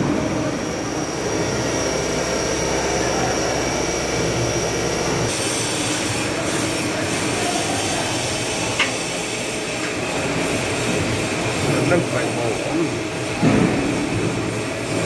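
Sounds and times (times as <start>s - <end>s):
machine spindle high whine: 0.0s - 13.4s.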